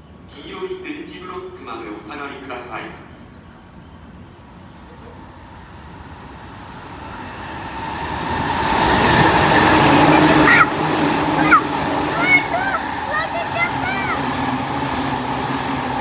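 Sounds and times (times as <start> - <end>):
high-speed train passing roar: 0.0 - 16.0.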